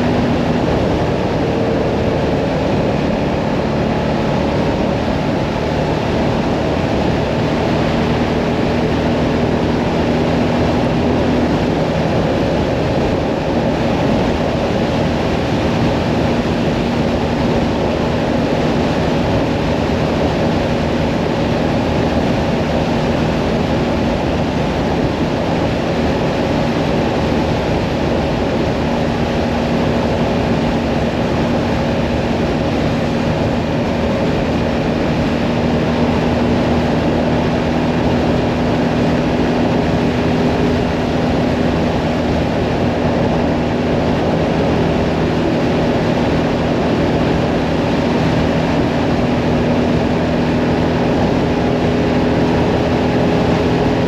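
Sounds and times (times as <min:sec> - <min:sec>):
heavy wind rush: 0:00.0 - 0:54.0
motorcycle engine running: 0:00.0 - 0:54.0.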